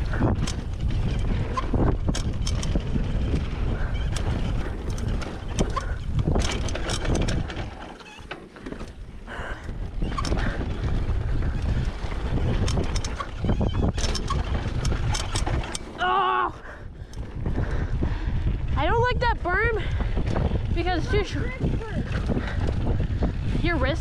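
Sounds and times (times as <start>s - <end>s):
wind rushing over microphone: 0.0s - 7.8s, 9.0s - 24.0s
bike rattling and knocking: 0.0s - 24.0s
tyres on dry dirt: 0.0s - 24.0s.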